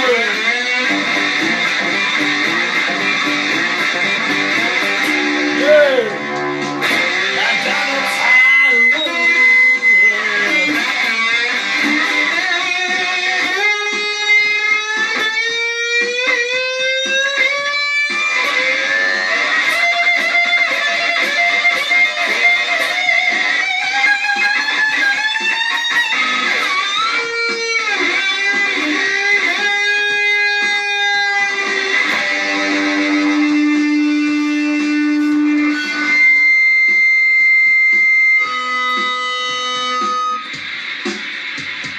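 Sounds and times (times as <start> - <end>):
electric guitar bending notes: 0.0 - 41.9.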